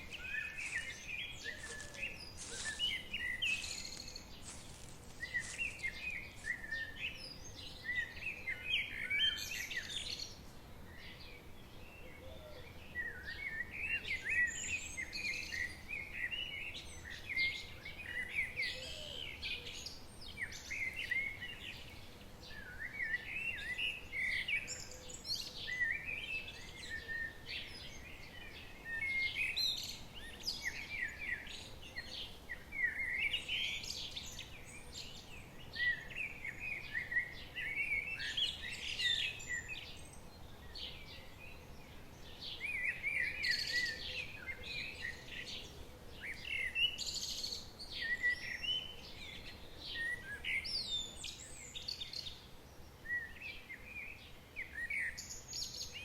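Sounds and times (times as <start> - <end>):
faint steady background hiss: 0.0 - 56.0
songbirds chirping and singing: 0.0 - 56.0.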